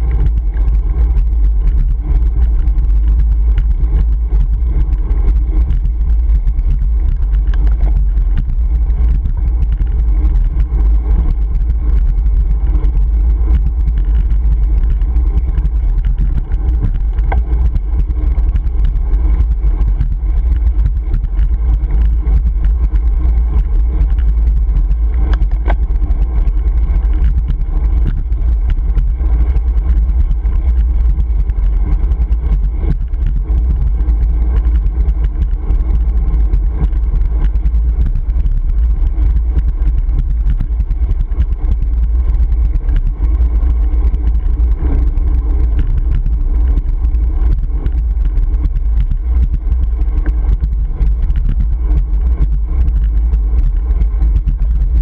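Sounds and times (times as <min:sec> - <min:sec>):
wind buffeting microphone: 0:00.0 - 0:55.0
small clicks: 0:00.1 - 0:55.0.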